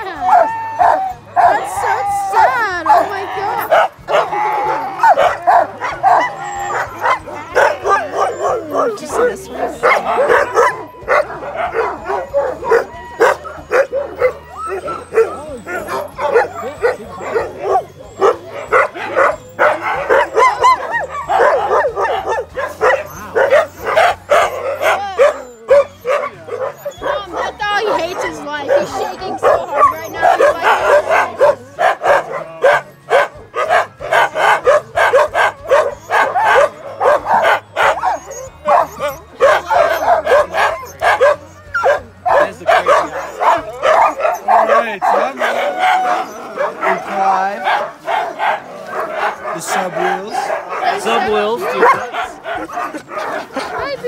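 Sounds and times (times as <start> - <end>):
dogs barking and yipping: 0.0 - 54.0
dogs whining: 0.0 - 54.0.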